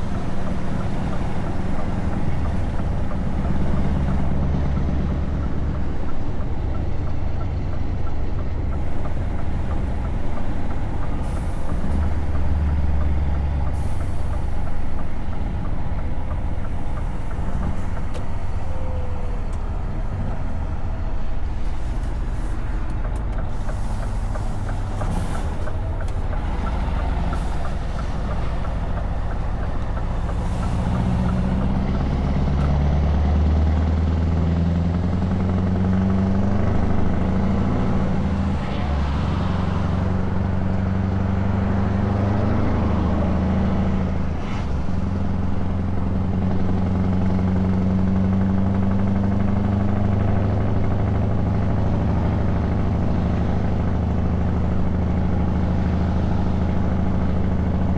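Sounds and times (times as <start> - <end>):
truck engine droning: 0.0 - 57.9.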